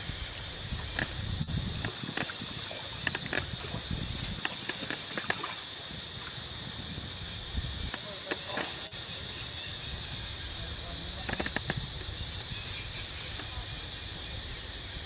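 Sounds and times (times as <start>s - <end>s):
water trickling in stream: 0.0s - 15.0s.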